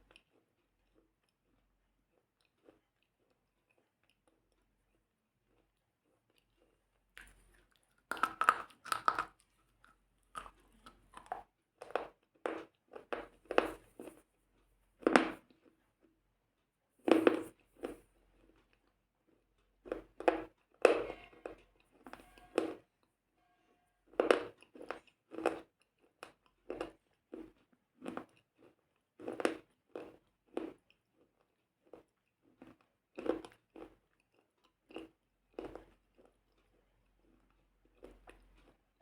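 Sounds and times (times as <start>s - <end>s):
crunchy chewing: 0.0s - 16.1s, 17.1s - 22.8s, 24.1s - 38.9s.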